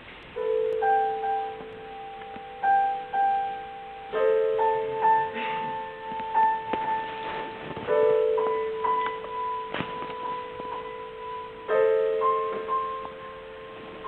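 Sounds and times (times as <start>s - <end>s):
slow piano notes and chords: 0.0s - 14.0s.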